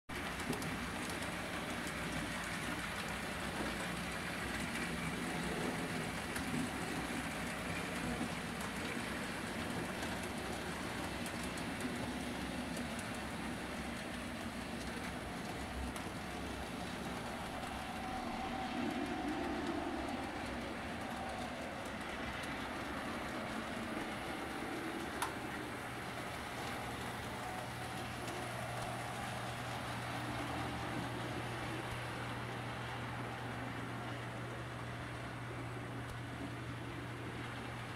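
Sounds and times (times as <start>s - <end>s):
model train wheels on rails: 0.1s - 37.9s.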